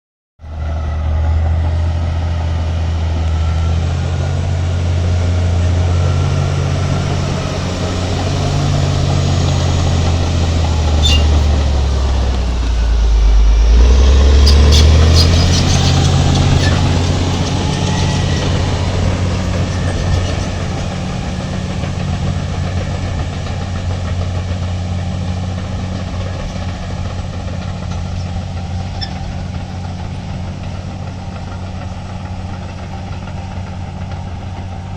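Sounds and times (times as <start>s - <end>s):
heavy diesel engine running: 0.4s - 34.9s.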